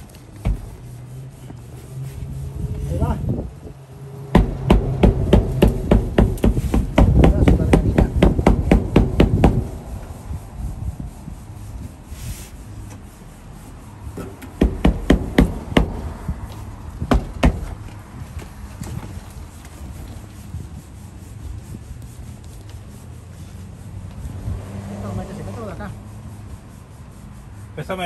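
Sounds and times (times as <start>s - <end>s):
knocking and rubbing on glass: 0.0s - 24.3s.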